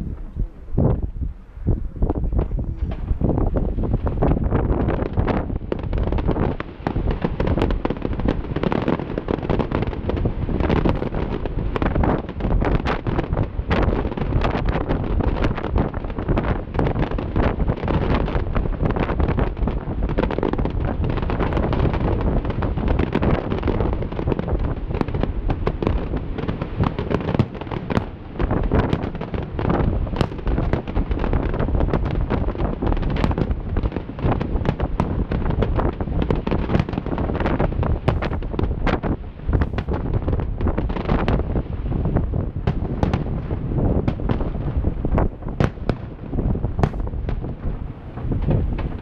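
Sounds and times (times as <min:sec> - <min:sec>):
fireworks bangs and crackling: 0:02.0 - 0:49.0.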